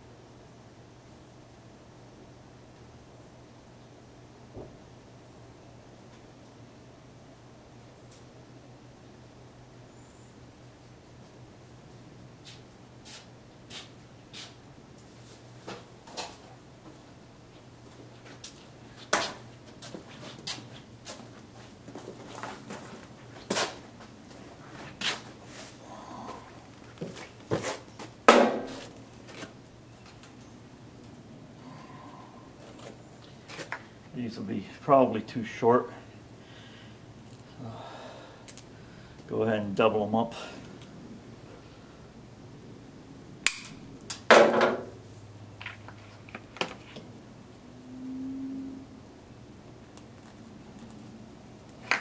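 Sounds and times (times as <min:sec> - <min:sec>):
low steady buzz: 0:00.0 - 0:52.0.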